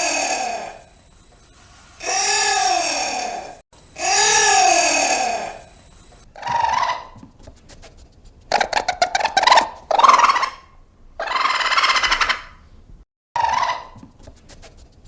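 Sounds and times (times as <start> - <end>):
animal calling with chattering rattle: 0.0 - 12.5, 13.4 - 14.1.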